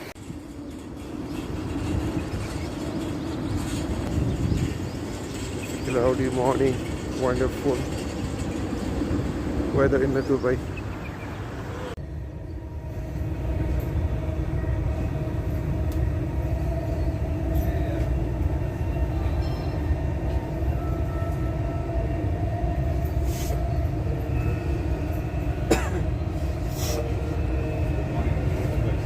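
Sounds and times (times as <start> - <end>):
metro train rumble: 0.0 - 29.0.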